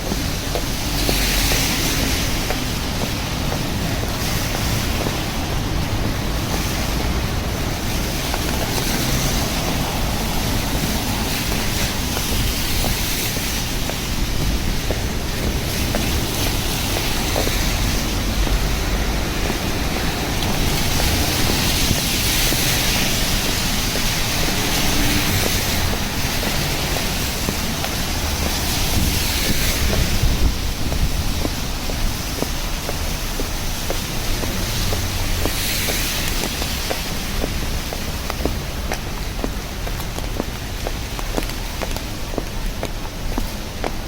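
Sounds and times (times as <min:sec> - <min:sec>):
rain hissing on wet street: 0:00.0 - 0:44.0
ticks of raindrops: 0:00.0 - 0:44.0.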